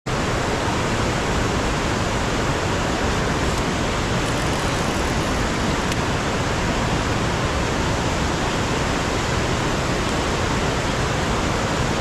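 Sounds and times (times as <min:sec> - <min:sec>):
river water rushing over dam: 0:00.1 - 0:12.0.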